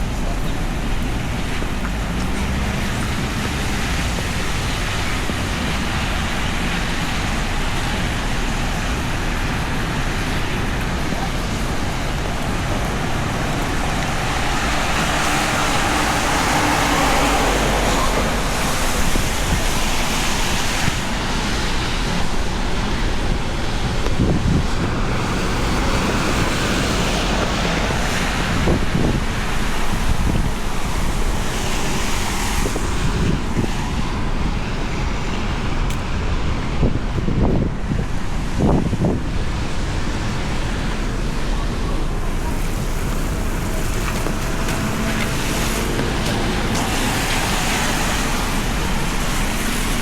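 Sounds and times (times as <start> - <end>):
heavy rain pouring: 0.0 - 50.0
road traffic: 0.0 - 50.0.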